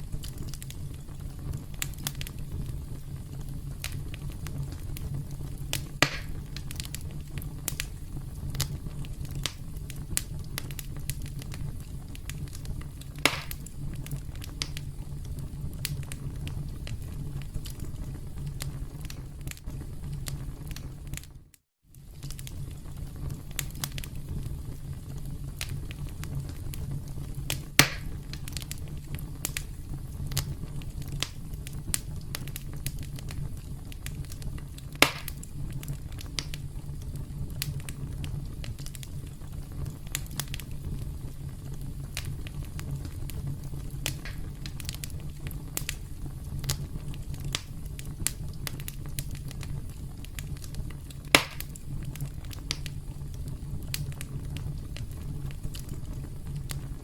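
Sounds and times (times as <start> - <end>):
campfire crackling: 0.0 - 57.0
loud pops from fire: 0.0 - 57.0.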